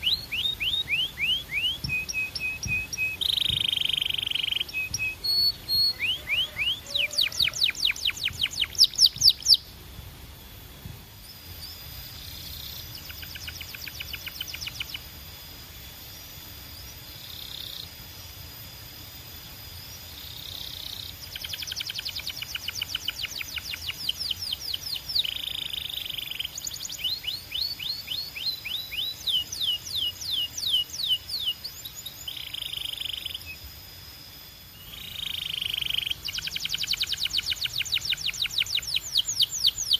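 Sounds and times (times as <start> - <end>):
canary singing trills: 0.0 - 9.8, 11.2 - 18.4, 19.9 - 33.8, 34.7 - 39.9.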